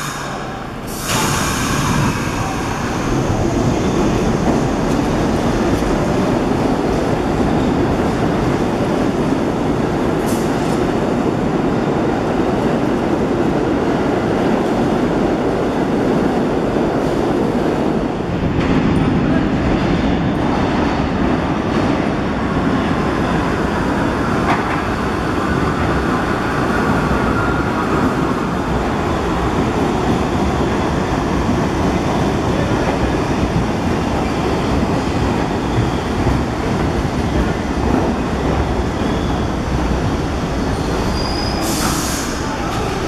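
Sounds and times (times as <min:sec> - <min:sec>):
subway train wheels on rails: 0:00.0 - 0:43.0.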